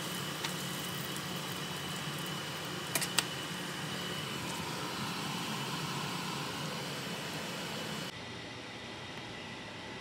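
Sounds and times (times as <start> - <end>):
food sizzling in oil: 0.0 - 8.1.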